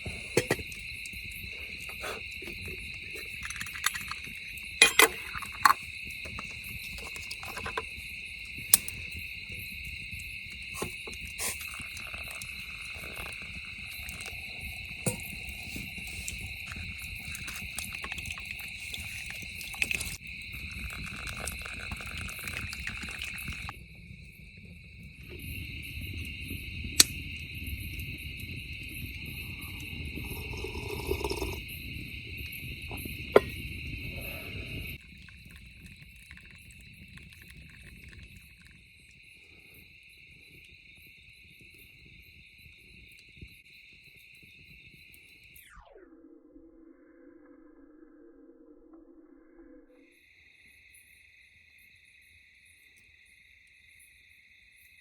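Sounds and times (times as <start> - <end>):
insect chorus trilling: 0.0 - 46.0
crickets chirping: 0.0 - 55.0.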